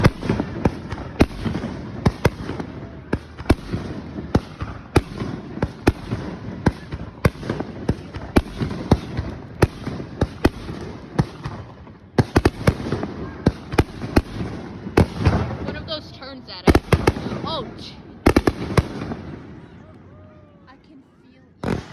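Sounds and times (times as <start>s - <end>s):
fireworks bangs: 0.0s - 20.1s, 21.6s - 21.9s.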